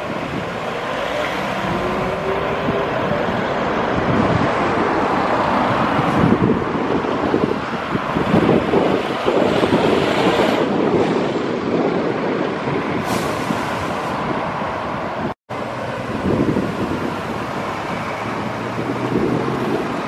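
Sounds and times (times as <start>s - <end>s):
buses and car driving past: 0.0s - 20.0s.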